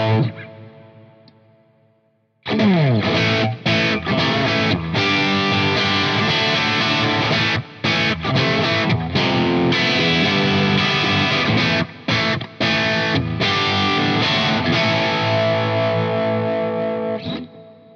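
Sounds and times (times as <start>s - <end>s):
distorted electric guitar riff: 0.0s - 1.4s, 2.4s - 17.9s.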